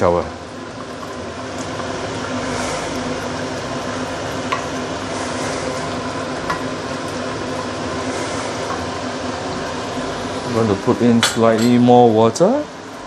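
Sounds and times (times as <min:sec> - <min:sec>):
curry boiling in a wok: 0:00.0 - 0:11.2, 0:11.9 - 0:13.0.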